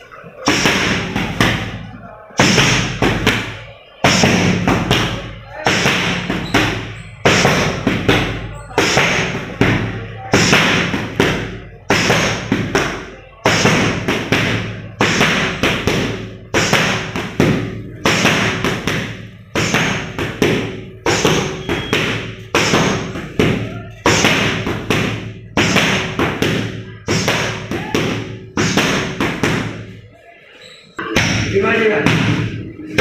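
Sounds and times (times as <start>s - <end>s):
boxing gloves striking focus mitts: 2.4s - 29.9s.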